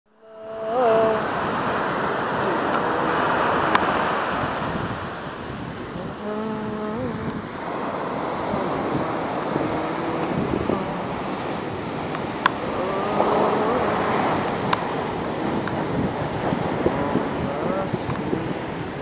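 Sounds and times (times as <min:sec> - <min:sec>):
waves breaking on shore: 0:00.2 - 0:19.0.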